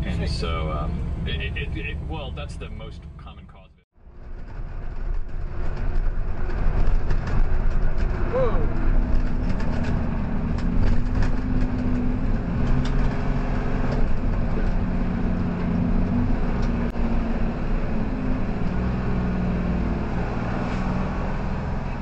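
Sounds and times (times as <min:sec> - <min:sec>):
truck engine and road drone: 0:00.0 - 0:22.0.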